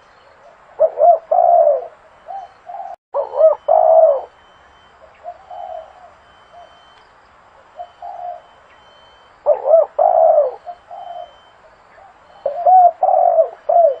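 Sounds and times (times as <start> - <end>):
dove cooing: 0.4 - 7.0, 7.6 - 14.0.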